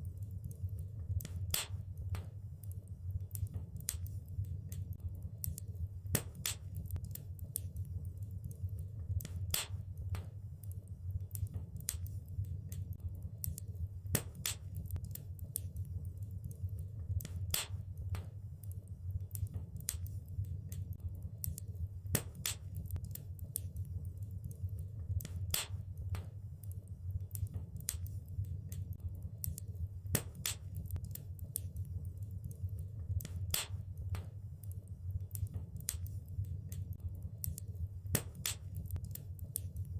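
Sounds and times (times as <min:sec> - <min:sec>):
low rumble of flames: 0:00.0 - 0:39.9
logs crackling and popping: 0:01.1 - 0:08.1, 0:09.1 - 0:15.9, 0:17.1 - 0:24.1, 0:24.7 - 0:39.7.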